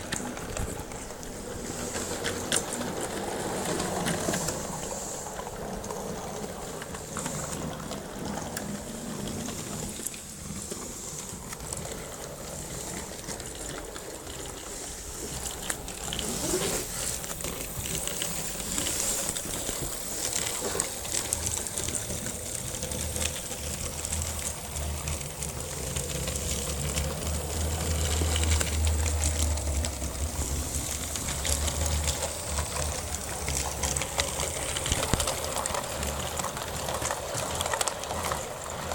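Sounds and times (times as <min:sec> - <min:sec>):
model locomotive motor running: 0:00.0 - 0:38.9
wheels clicking on track: 0:00.0 - 0:38.9.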